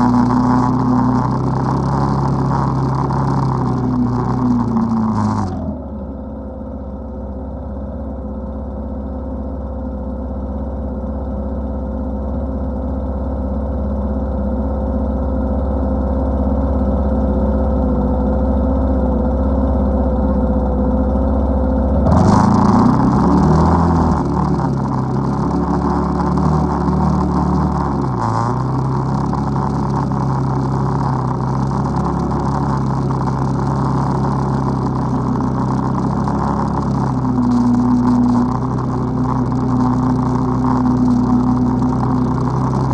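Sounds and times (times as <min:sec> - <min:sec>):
atv engine running: 0:00.0 - 0:08.2, 0:14.8 - 0:42.9.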